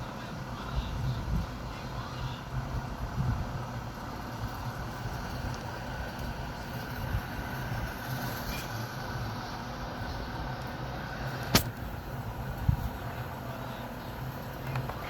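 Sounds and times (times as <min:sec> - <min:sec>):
electric fan whirring: 0:00.0 - 0:15.0.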